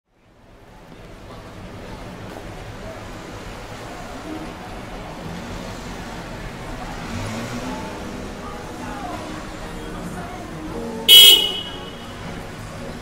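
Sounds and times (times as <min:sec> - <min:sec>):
street traffic noise: 0:00.1 - 0:13.0.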